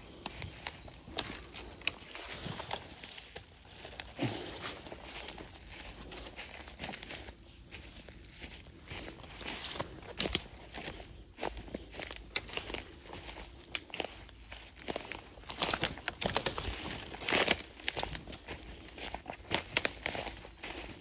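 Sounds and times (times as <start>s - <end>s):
footsteps crunching through dry leaves: 0.0s - 21.0s
twigs crackling: 0.0s - 21.0s.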